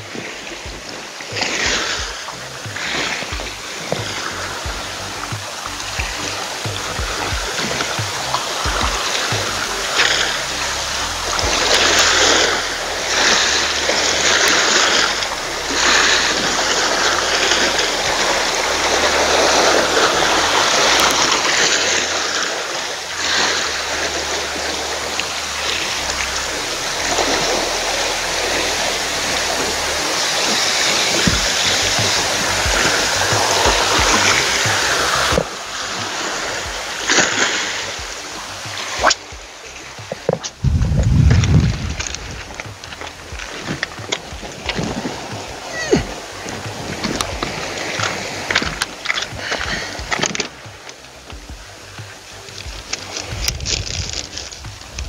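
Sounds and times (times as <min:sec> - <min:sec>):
sea waves splashing on rocks: 0:00.0 - 0:55.0.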